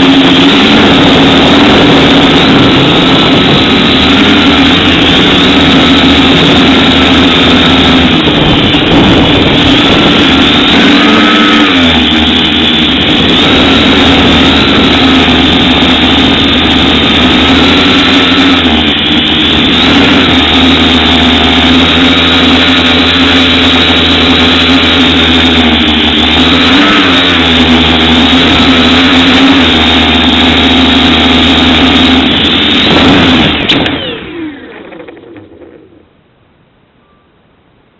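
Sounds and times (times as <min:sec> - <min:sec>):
drone motors buzzing whine: 0:00.0 - 0:36.2.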